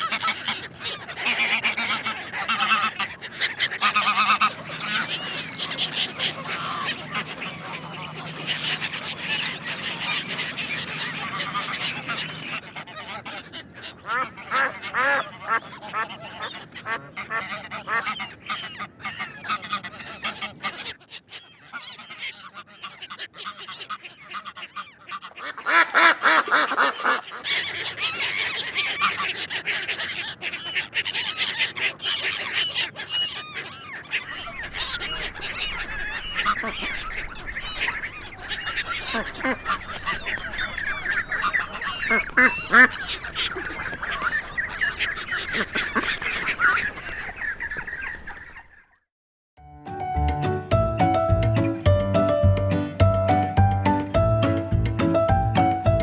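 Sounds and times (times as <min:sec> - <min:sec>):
ducks quacking: 0:00.0 - 0:48.8.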